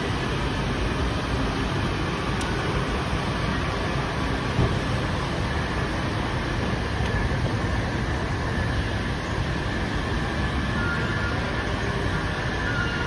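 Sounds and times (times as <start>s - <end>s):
train noise: 0.0s - 13.0s.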